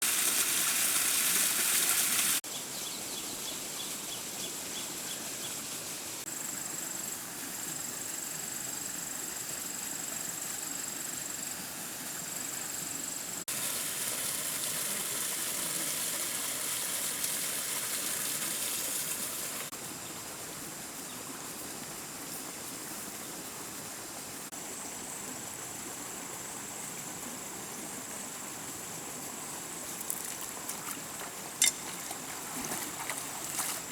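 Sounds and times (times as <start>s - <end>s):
hiss of water: 0.0s - 2.5s, 3.5s - 33.9s.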